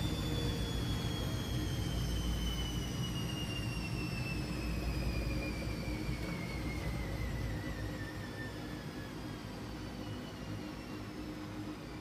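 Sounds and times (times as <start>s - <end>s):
washing machine drum spinning down: 0.0s - 12.0s.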